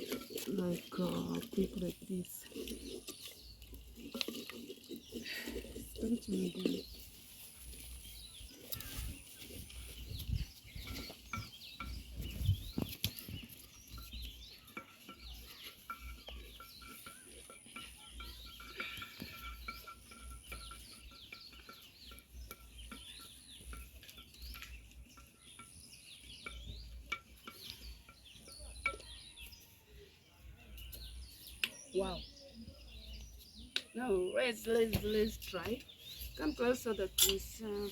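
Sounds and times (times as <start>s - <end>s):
birds chirping: 0.0s - 37.9s
wooden stick stirring food in pot: 0.0s - 37.9s.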